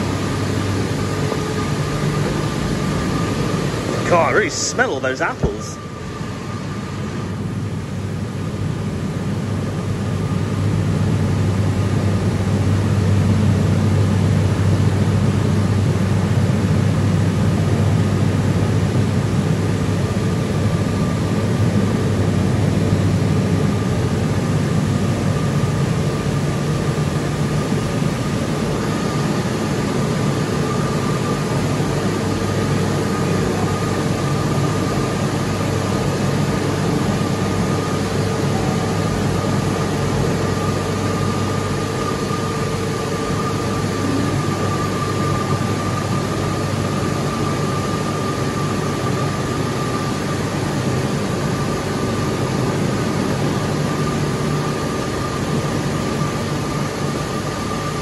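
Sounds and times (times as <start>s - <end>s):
machinery high whine: 0.0s - 58.0s
machinery low hum: 0.0s - 58.0s.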